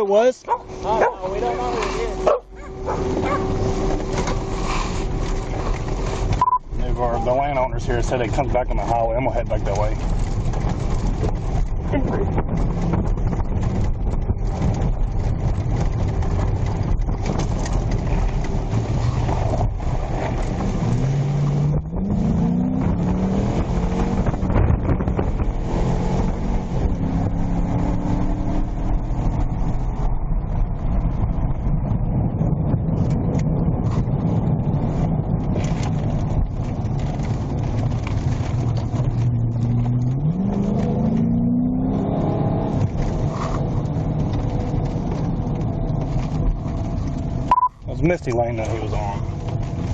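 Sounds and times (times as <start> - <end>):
car engine running: 0.0 - 49.9
tyre and road noise: 0.0 - 49.9.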